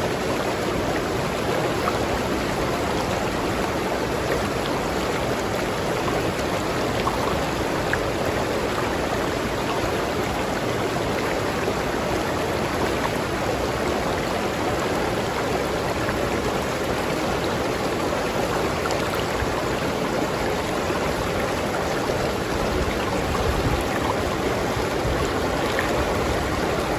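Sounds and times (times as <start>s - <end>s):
river water splashing over rocks: 0.0s - 26.9s.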